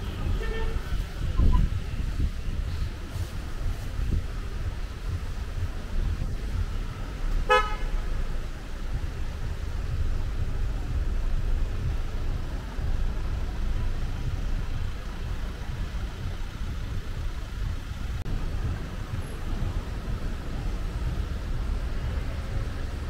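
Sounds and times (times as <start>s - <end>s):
cars rumbling on road: 0.0s - 23.0s
faint street noise: 0.0s - 23.0s.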